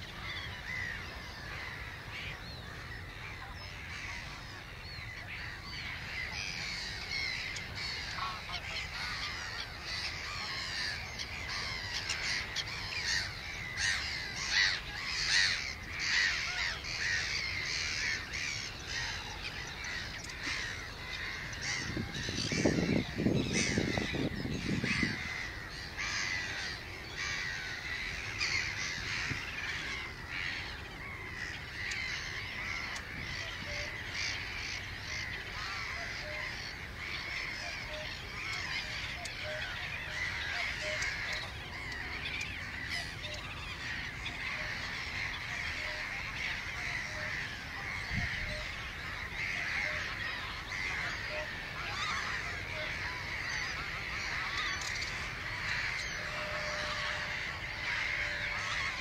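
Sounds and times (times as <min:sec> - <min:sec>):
lower bird calls: 0:00.0 - 0:59.0
wetland birds chorus: 0:00.0 - 0:59.0.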